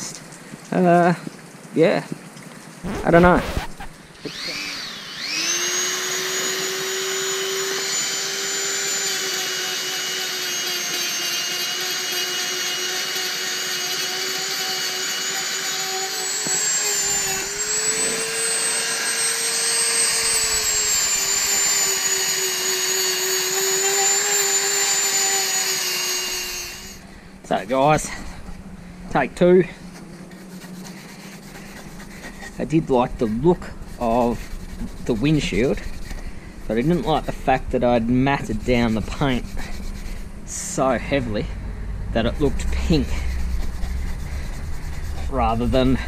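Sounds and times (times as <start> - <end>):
rotary tool high whine: 2.9 - 41.5, 42.2 - 46.0.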